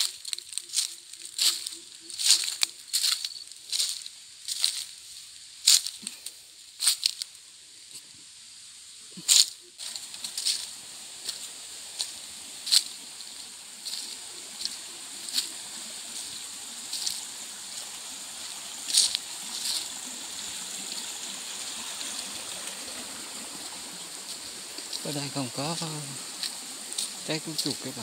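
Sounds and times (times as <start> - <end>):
footsteps crunching dry leaves: 0.0 - 7.4, 9.2 - 28.0
stream running over rocks: 0.0 - 28.0.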